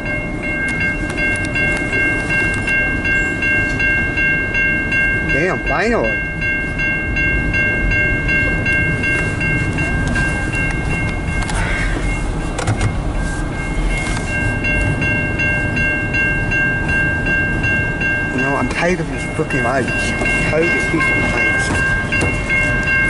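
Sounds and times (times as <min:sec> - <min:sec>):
crossing warning bell ringing: 0:00.0 - 0:23.0
freight train cars rumbling past: 0:00.0 - 0:23.0.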